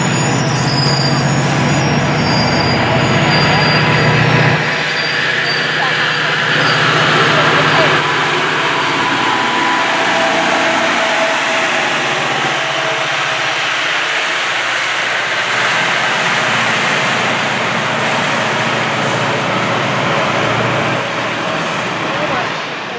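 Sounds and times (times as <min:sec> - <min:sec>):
diesel engine tone: 0:00.0 - 0:22.9
train wheels rumbling on rail: 0:00.0 - 0:22.9.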